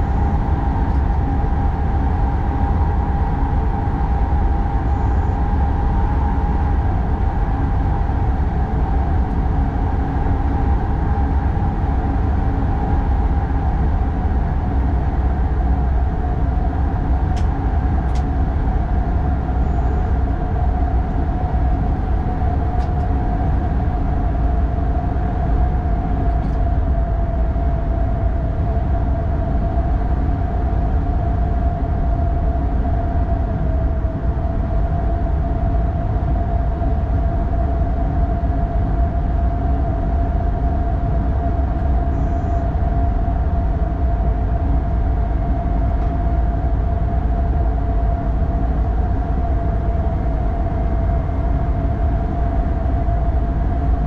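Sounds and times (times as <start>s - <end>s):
train rumble and whine: 0.0s - 54.0s.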